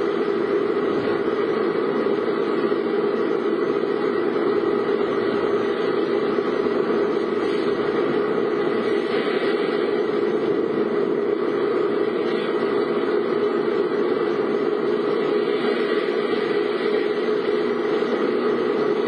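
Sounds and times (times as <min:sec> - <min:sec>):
car engine running: 0:00.0 - 0:19.0
road rumble: 0:00.0 - 0:19.0.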